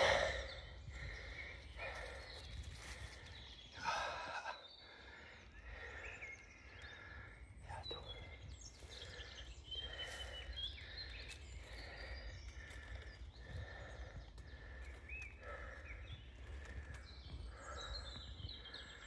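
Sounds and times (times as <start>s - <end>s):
bird chirps: 0.0s - 19.0s
footsteps on forest path: 0.0s - 19.0s
person breathing hard: 0.0s - 19.0s.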